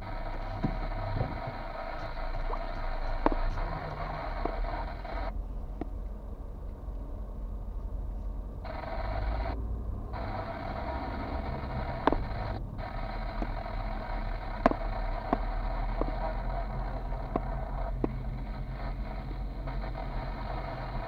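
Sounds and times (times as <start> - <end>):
steady hiss: 0.0 - 5.4, 8.6 - 21.0
car engine and tyre rumble: 0.0 - 21.0.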